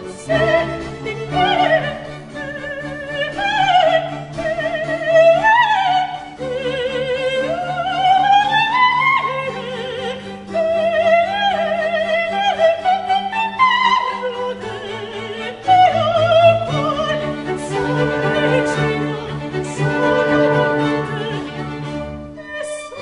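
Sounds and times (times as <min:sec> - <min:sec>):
small orchestra with strings: 0:00.0 - 0:23.0
soprano singing opera: 0:00.0 - 0:23.0.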